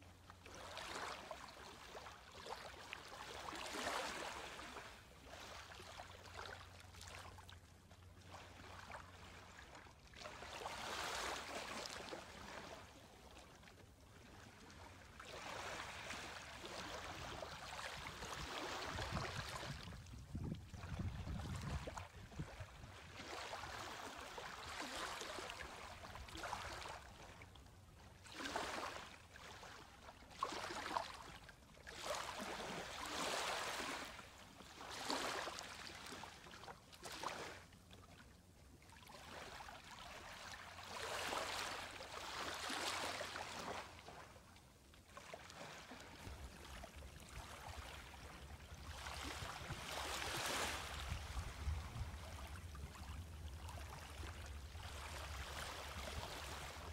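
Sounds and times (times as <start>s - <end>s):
small waves lapping on sand: 0.2s - 56.9s.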